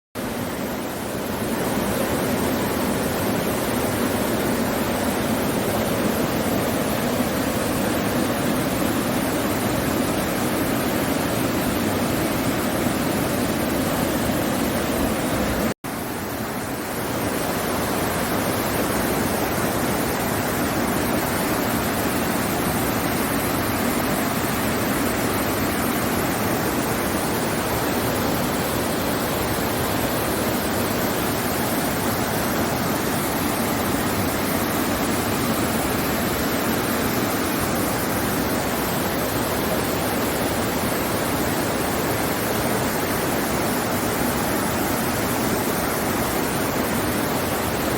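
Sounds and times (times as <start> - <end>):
stream rushing: 0.2 - 47.9.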